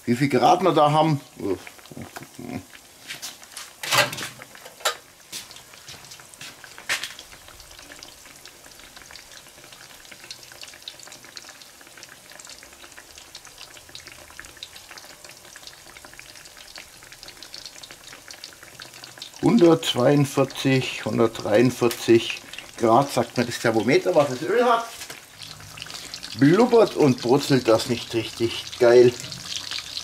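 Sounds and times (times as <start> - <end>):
schnitzel sizzling in hot oil: 0.0 - 30.0.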